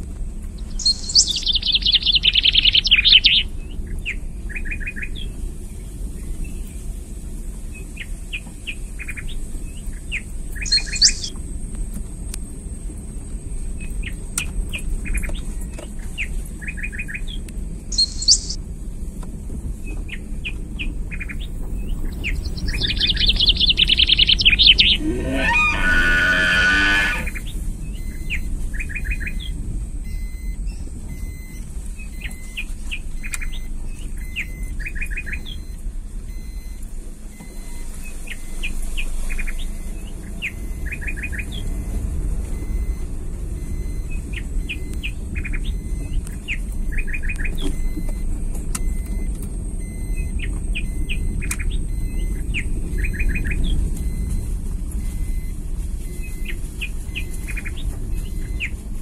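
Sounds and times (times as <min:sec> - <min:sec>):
vehicle driving rumble: 0:00.0 - 0:59.0
birds chirping: 0:00.4 - 0:18.7, 0:19.7 - 0:59.0.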